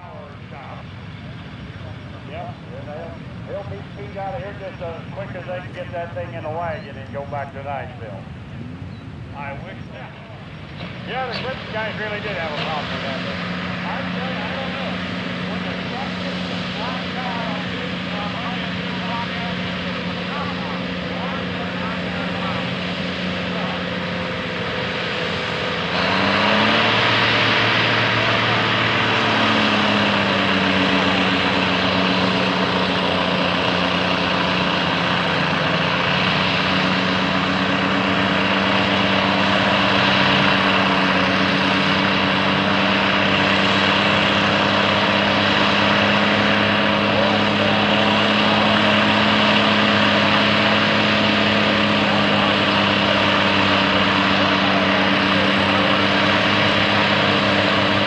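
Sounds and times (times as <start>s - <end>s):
tractor diesel engine working hard: 0.0s - 58.0s.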